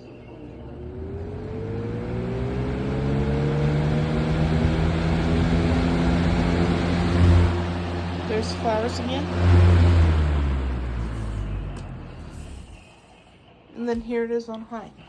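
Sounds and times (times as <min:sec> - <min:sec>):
box fan motor humming: 0:00.0 - 0:13.0.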